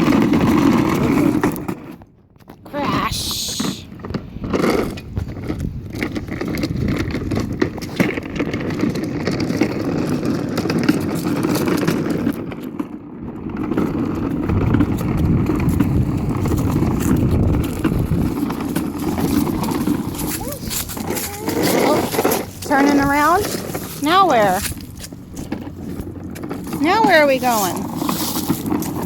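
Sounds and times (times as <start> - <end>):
toy truck motor and wheels rumbling: 0.0 - 2.1, 3.1 - 29.0.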